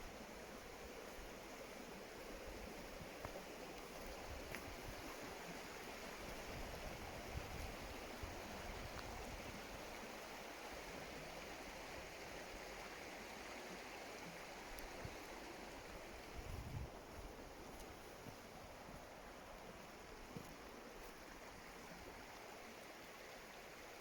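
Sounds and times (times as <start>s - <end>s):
stream of running water: 0.0s - 24.0s.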